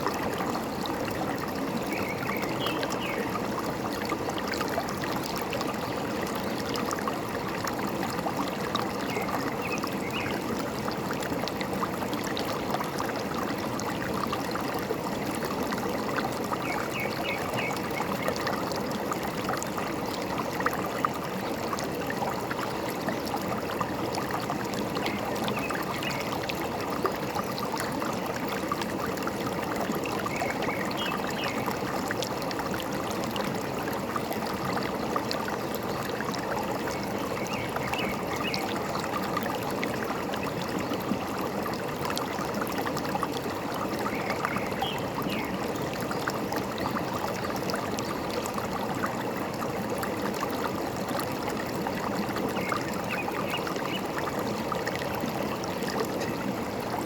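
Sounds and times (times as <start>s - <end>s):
stream trickling and gurgling: 0.0s - 57.0s.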